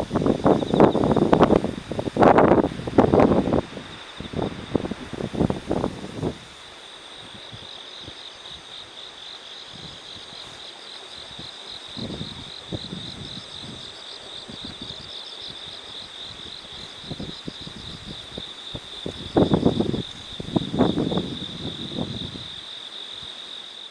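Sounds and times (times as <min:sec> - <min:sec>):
crickets trilling: 0:00.0 - 0:23.9
pulsing insect chirp: 0:00.0 - 0:23.9.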